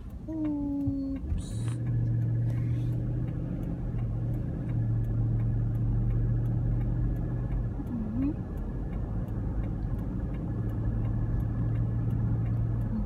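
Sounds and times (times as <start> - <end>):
car engine and road drone: 0.0 - 13.0
faint ticks: 0.0 - 13.0.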